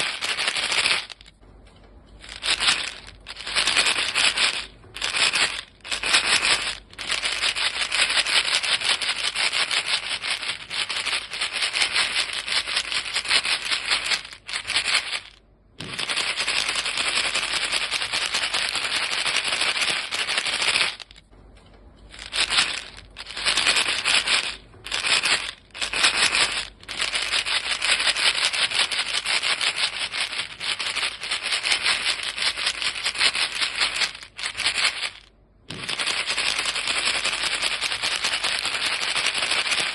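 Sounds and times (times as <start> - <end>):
gum pellets rattling in box: 0.0 - 1.4, 2.2 - 21.3, 22.1 - 39.9.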